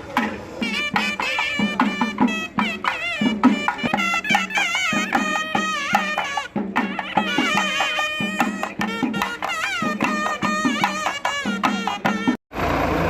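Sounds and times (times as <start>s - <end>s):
drum strokes: 0.0s - 12.4s
wind instrument melody: 0.0s - 12.4s.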